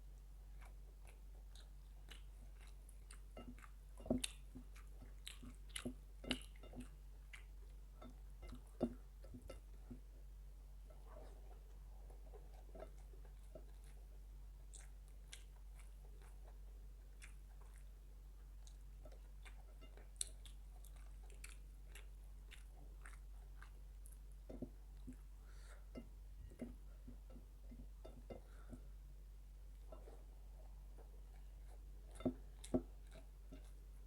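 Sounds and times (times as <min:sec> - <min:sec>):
person chewing and eating: 0:00.2 - 0:34.0.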